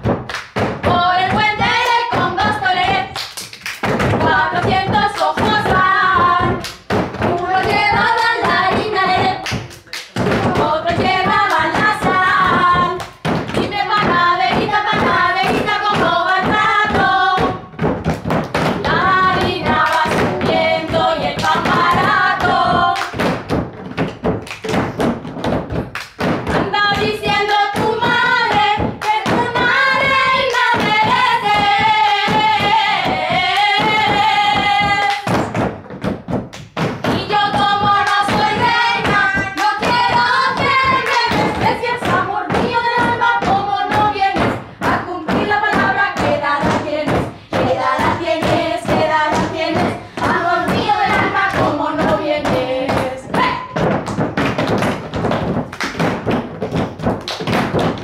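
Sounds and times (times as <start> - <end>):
woman and girls singing: 0.0 - 23.6, 26.4 - 35.7, 37.0 - 55.6
palms slapping wooden tables: 0.0 - 58.0.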